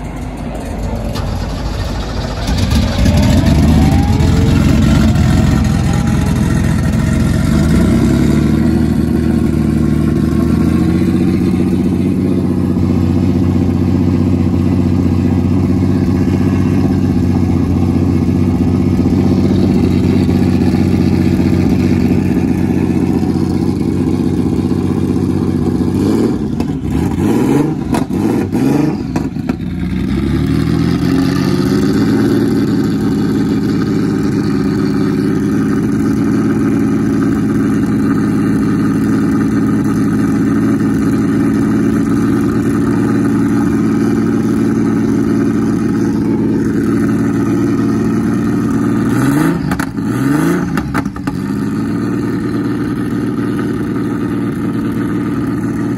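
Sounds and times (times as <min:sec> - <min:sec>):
car engine starting and idling: 0:00.0 - 0:55.9
engine revving: 0:00.0 - 0:55.9.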